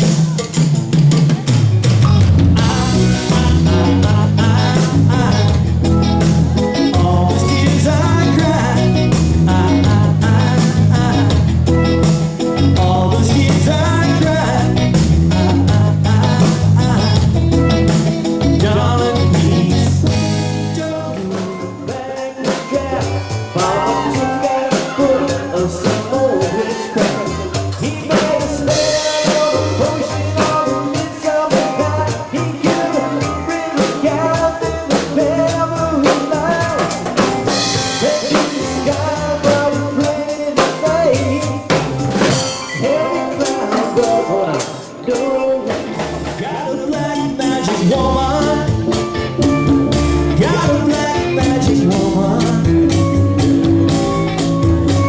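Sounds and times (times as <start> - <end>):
band playing reggae rock: 0.0 - 55.0.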